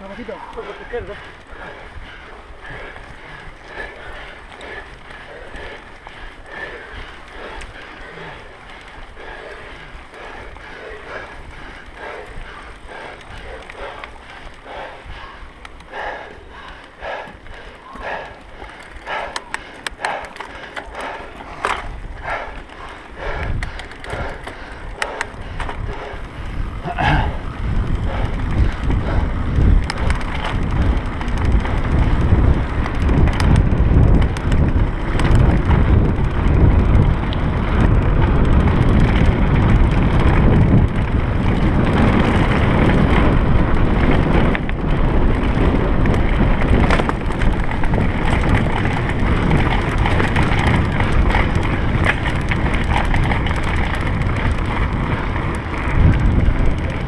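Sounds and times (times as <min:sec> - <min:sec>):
bike rattling: 0:00.0 - 0:57.0
bike tyres on dirt trail: 0:00.0 - 0:57.0
wind buffeting microphone: 0:00.0 - 0:57.0.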